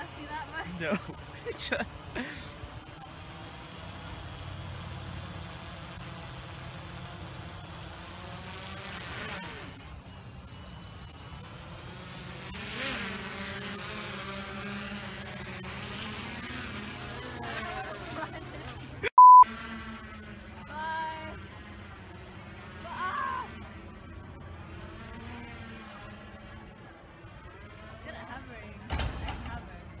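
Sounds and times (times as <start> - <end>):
drone buzzing whine: 0.0 - 30.0.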